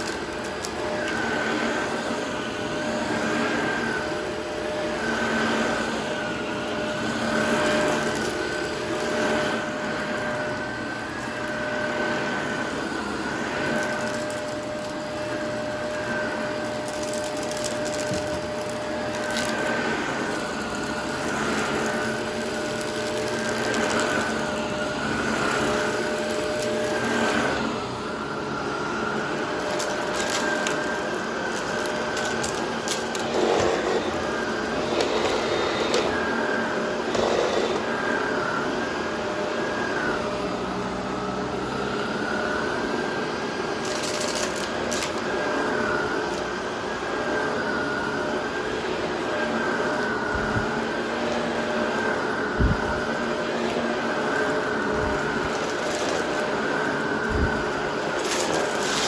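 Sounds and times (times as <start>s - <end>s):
debris crackling in vacuum: 0.0s - 38.8s, 43.8s - 59.0s
vacuum cleaner running: 0.0s - 59.0s.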